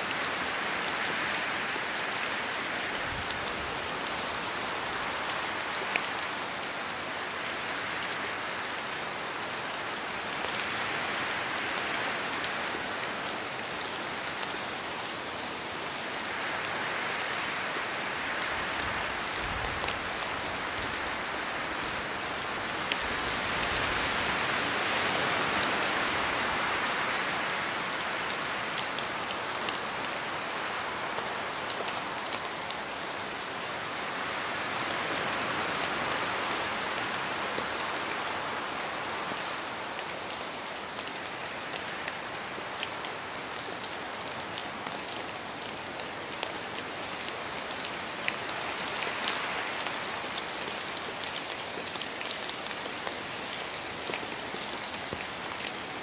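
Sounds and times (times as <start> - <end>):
steady rain with wind: 0.0 - 56.0.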